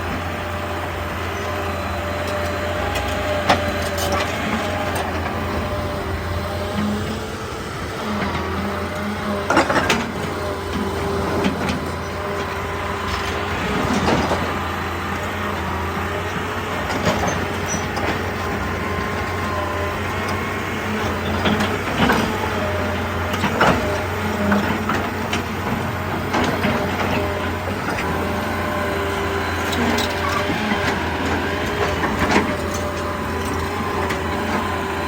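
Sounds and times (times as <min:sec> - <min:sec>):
excavator diesel engine running: 0:00.0 - 0:35.0
hydraulic whine: 0:00.0 - 0:35.0.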